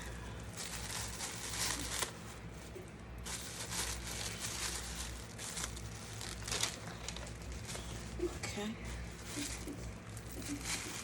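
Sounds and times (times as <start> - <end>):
packaging crinkling and rustling: 0.4 - 11.0.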